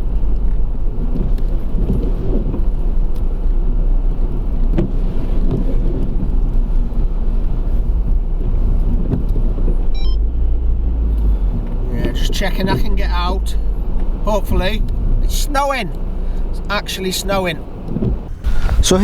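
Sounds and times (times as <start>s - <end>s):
car engine running low: 0.0s - 19.0s
road rumble: 0.0s - 19.0s.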